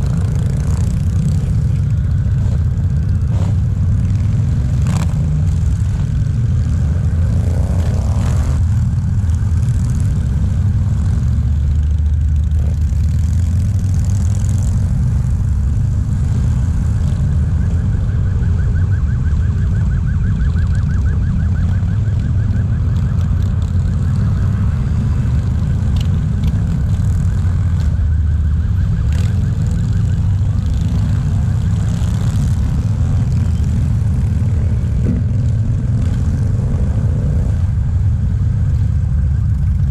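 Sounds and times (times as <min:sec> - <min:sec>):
motorcycle engines rumbling: 0:00.0 - 0:39.9.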